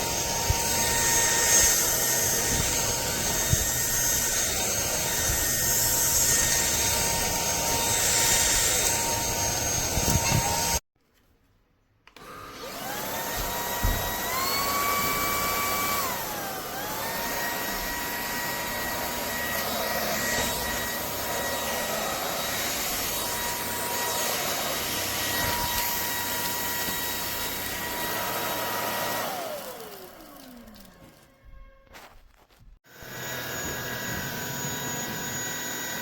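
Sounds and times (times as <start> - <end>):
vacuum motor whine: 0.0 - 10.8, 12.2 - 31.2, 32.9 - 36.0.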